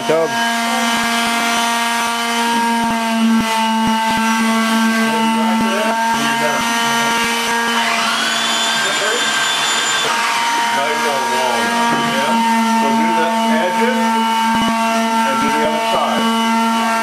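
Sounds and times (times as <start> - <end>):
woodworking machinery humming: 0.0 - 17.0.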